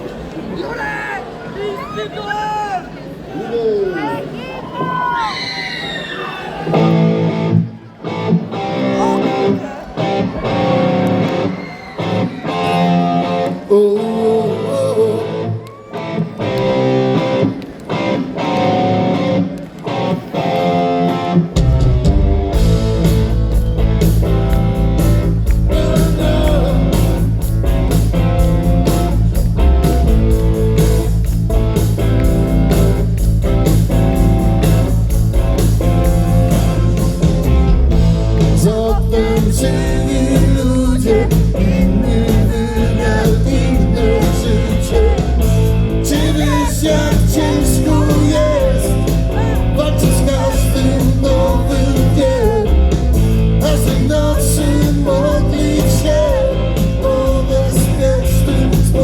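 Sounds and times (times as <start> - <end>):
electric guitar: 6.7 - 59.0
rock band playing live: 6.7 - 59.0.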